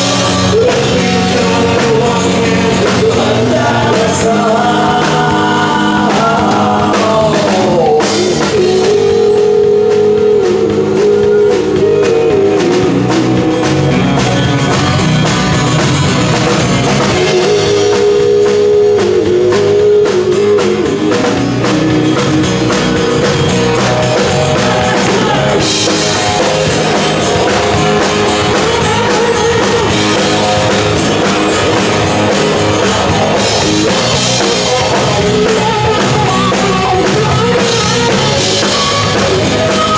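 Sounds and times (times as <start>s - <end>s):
person singing: 0.0s - 14.4s, 17.0s - 39.9s
drum kit: 0.0s - 39.9s
electric guitar: 0.0s - 39.9s.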